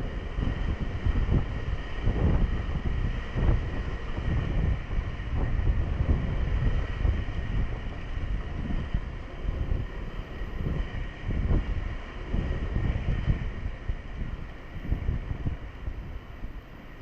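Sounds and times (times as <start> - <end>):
thin steady whine: 0.0 - 17.0
wind buffeting microphone: 0.0 - 17.0.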